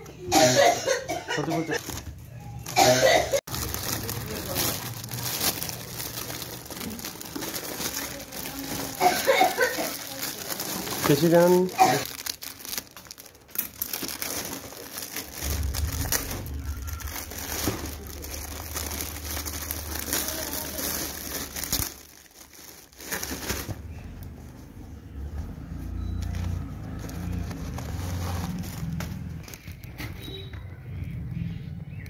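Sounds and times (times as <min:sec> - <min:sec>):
plastic wrapping crinkling: 0:01.8 - 0:24.9, 0:25.8 - 0:30.7.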